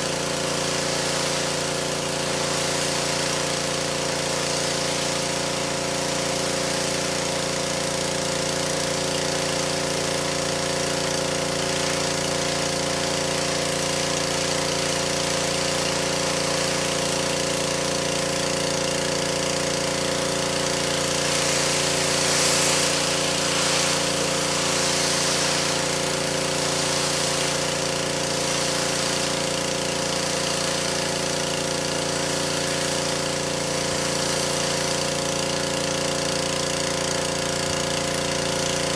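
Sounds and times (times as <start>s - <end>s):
spray hissing: 0.0s - 38.4s
pressure washer motor drone: 0.0s - 38.9s.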